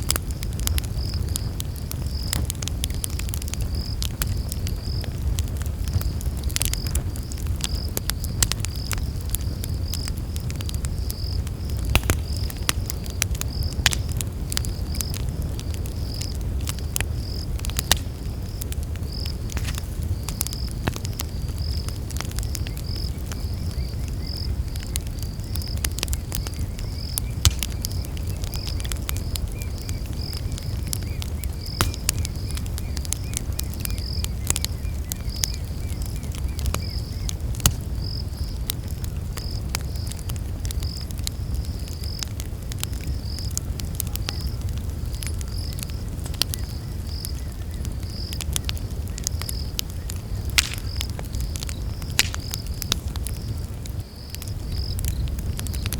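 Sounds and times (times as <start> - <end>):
campfire crackling and popping: 0.0 - 55.9
insects trilling: 0.4 - 55.9.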